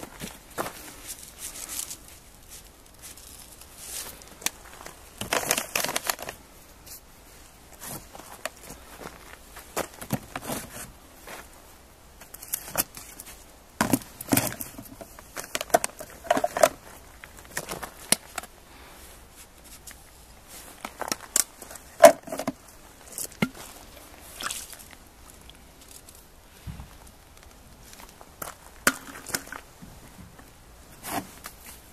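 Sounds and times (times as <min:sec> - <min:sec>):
rustling: 0:00.0 - 0:31.9.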